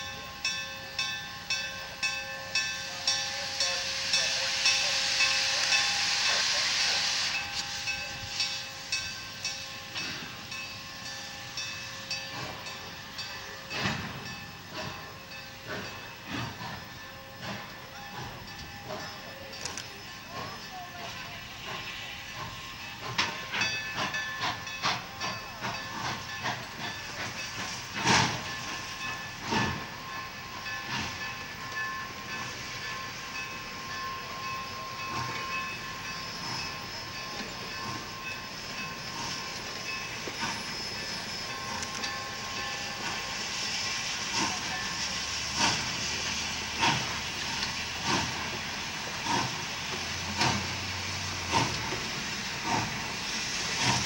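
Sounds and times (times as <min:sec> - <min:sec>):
steam locomotive beats: 0:00.0 - 0:54.0
steam locomotive rumble and hiss: 0:00.0 - 0:54.0
train wheels clattering on rails: 0:00.0 - 0:54.0.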